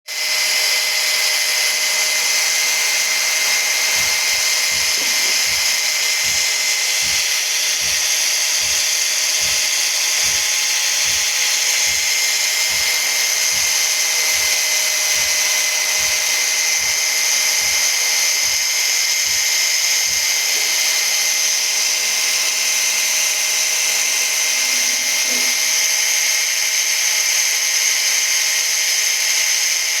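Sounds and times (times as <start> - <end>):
electric motor whining: 0.1 - 30.0.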